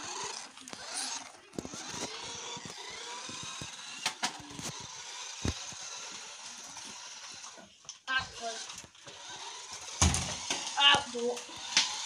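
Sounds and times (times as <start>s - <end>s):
toy car motor whirring: 0.0s - 12.0s.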